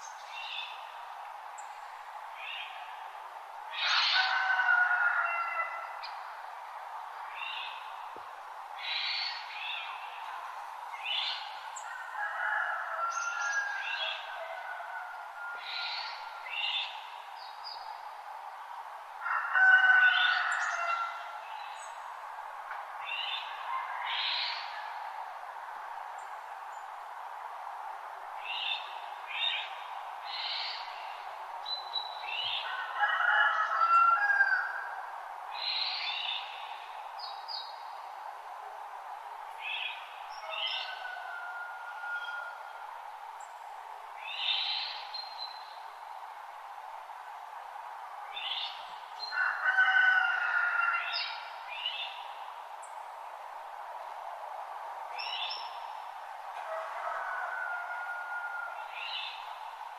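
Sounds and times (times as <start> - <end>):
background hiss: 0.0 - 12.2, 12.8 - 59.9.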